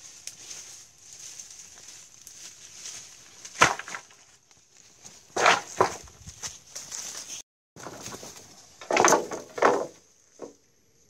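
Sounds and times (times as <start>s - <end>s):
bamboo poles clattering on ground: 0.0s - 10.7s.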